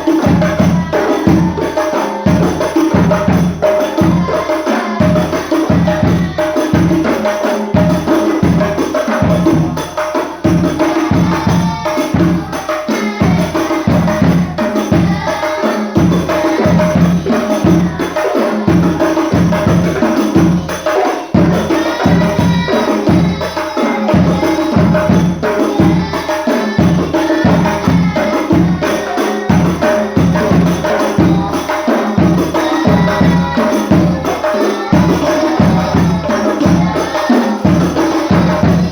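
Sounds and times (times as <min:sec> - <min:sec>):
frame drums and jingles: 0:00.0 - 0:38.9.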